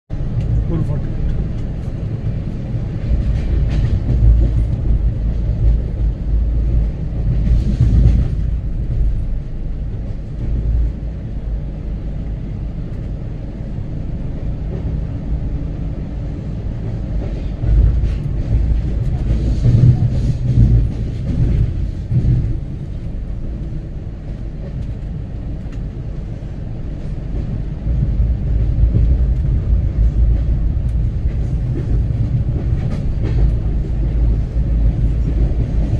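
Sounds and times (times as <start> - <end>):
train rattling: 0.1 - 35.9
train wheels rumbling on rails: 0.1 - 35.9.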